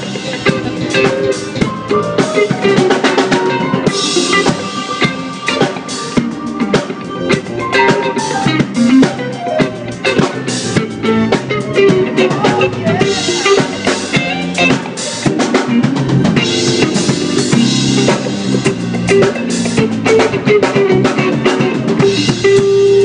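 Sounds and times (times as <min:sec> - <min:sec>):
drum kit steady beat: 0:00.0 - 0:23.0
electric bass: 0:00.0 - 0:23.0
electric guitar: 0:00.0 - 0:23.0.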